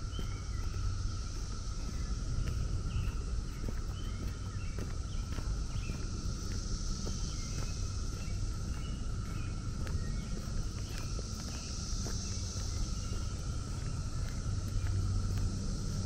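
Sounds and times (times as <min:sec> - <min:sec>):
cicadas droning chorus: 0:00.0 - 0:16.0
footsteps on dirt trail: 0:00.0 - 0:16.0.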